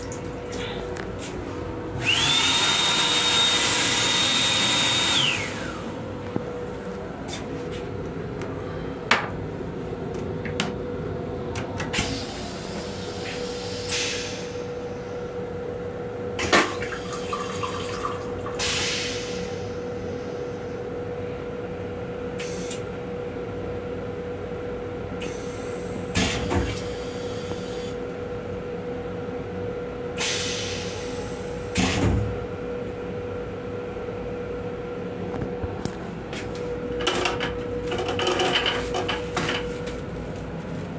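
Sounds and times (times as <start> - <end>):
train hum with high tone: 0.0 - 40.9.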